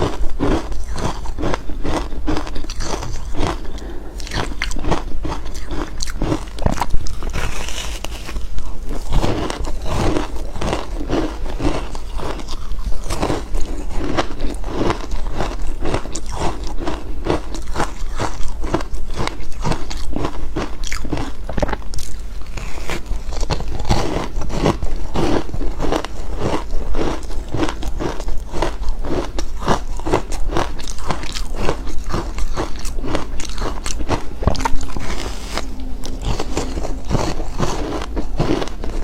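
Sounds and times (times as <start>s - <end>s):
chewing ice crunching: 0.0s - 39.0s.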